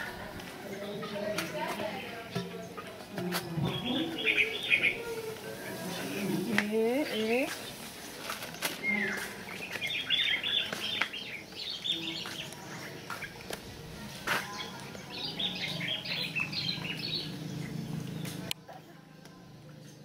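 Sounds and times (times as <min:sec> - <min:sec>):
small birds twittering: 0:00.7 - 0:18.6.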